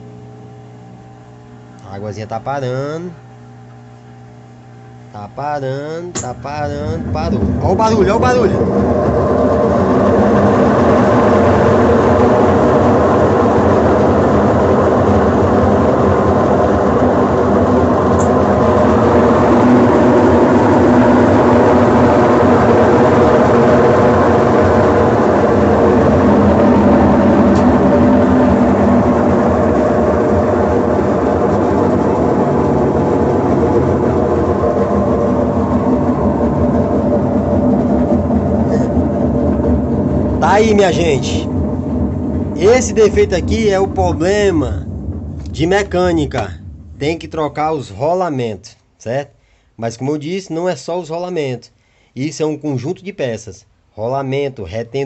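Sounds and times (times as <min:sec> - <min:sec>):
washing machine spinning: 0:00.0 - 0:48.6.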